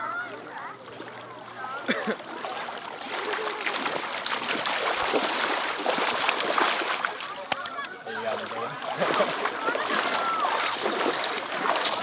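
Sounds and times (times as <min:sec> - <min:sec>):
creek water splashing: 0:00.5 - 0:12.0
water rushing: 0:00.8 - 0:12.0.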